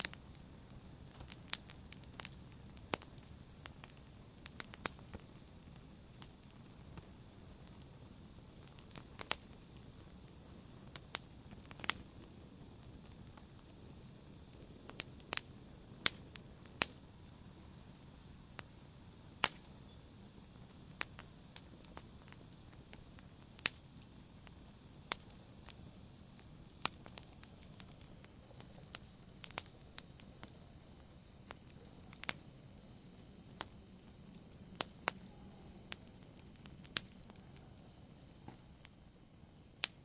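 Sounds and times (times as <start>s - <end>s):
burning logs popping: 0.0s - 40.0s
flames hissing: 0.0s - 40.0s.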